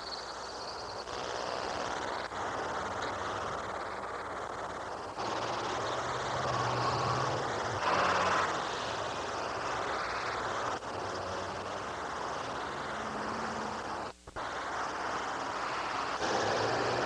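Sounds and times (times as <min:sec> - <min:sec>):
engine-like drone: 0:00.0 - 0:17.0.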